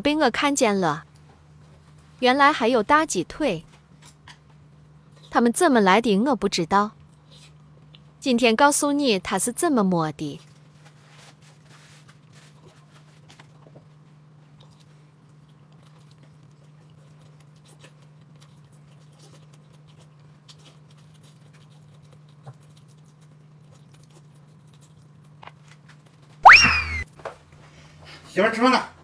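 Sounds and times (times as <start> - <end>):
steady low hum: 0.0 - 25.4.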